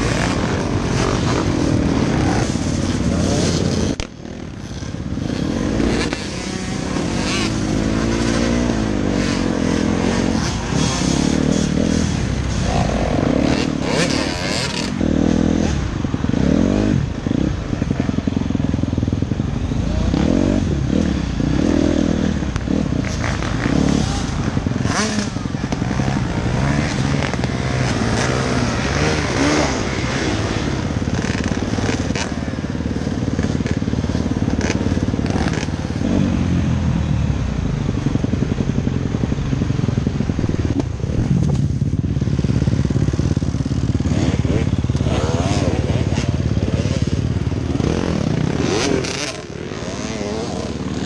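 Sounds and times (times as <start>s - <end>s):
dirt bike engine revving: 0.0s - 18.8s, 19.7s - 36.9s, 38.0s - 51.0s
other dirt bikes running: 0.0s - 51.0s.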